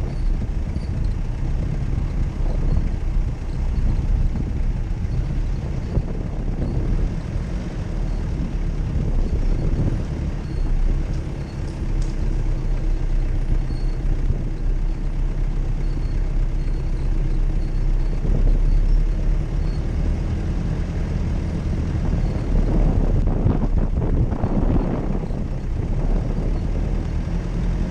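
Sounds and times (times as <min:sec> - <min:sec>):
car engine running: 0:00.0 - 0:27.9.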